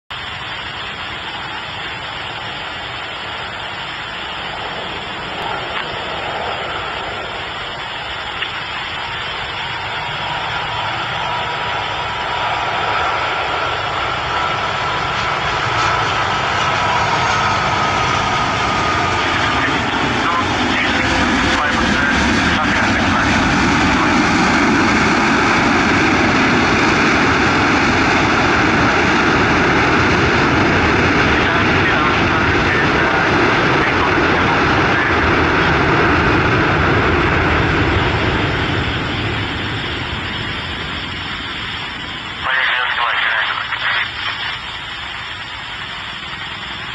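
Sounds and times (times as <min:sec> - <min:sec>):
jet engine roar with whine: 0:00.1 - 0:46.9.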